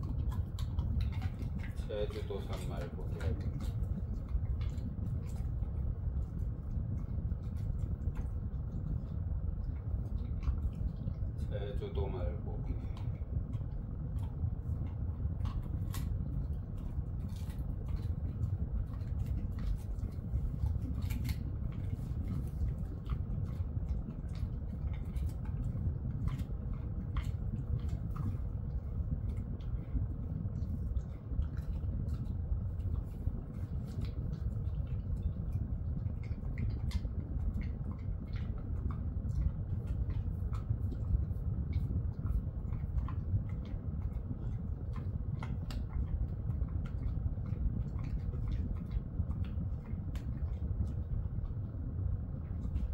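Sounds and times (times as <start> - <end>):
dog chewing: 0.0 - 52.9
low hum: 0.0 - 52.9.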